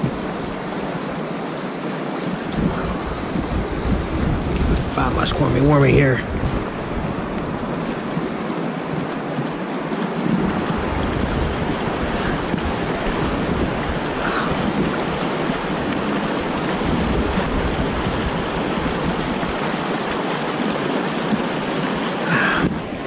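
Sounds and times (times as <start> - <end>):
water rushing over spillway: 0.0 - 23.0.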